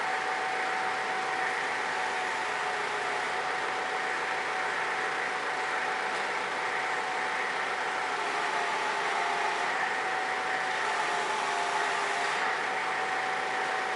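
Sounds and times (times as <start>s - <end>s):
forklift machine hum and hiss: 0.0s - 13.9s
high hydraulic whine: 0.0s - 13.9s.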